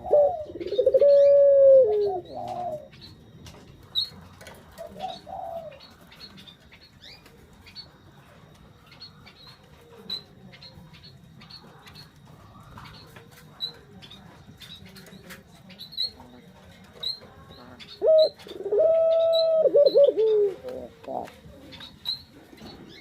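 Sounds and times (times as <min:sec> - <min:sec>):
doves cooing: 0:00.0 - 0:23.0
small birds chirping: 0:00.0 - 0:23.0.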